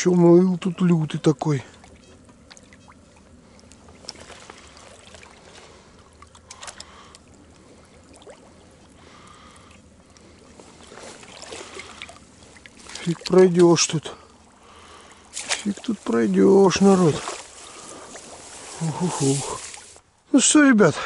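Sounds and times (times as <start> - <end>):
water sloshing from wading: 0.0 - 20.2
faint splashes: 1.5 - 20.0.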